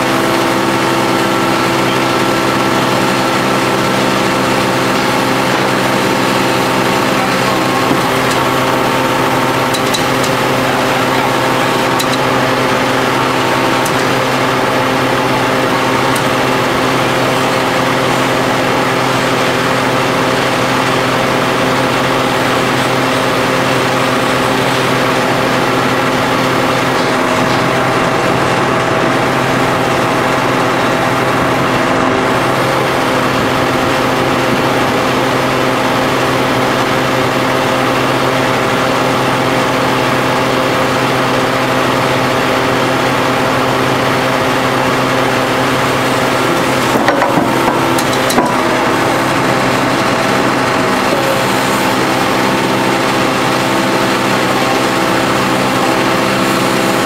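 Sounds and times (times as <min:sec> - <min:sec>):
hydraulic power unit drone: 0:00.0 - 0:57.0.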